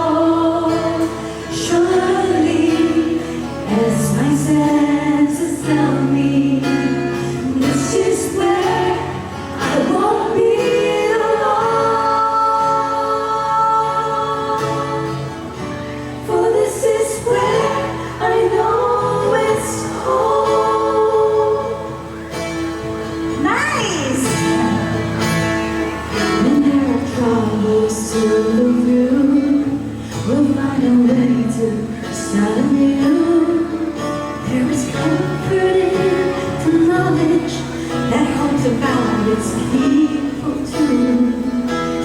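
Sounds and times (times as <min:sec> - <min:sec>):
vocal group singing in harmony: 0:00.0 - 0:42.0.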